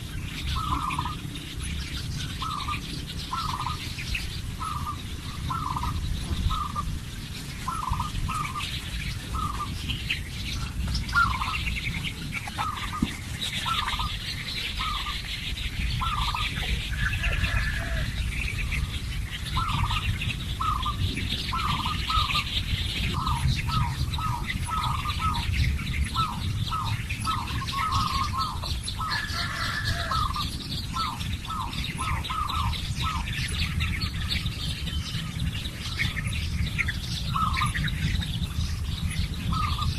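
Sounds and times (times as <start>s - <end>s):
birds calling: 0.0s - 39.9s
steady low rumble: 0.0s - 39.9s.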